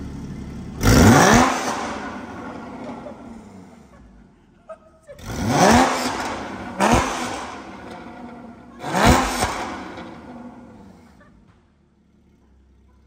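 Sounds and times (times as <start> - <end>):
car engine revving: 0.0 - 4.0, 5.2 - 12.4.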